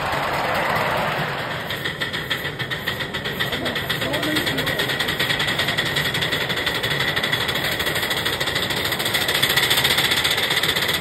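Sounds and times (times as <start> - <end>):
steam locomotive chuffing: 0.0 - 11.0.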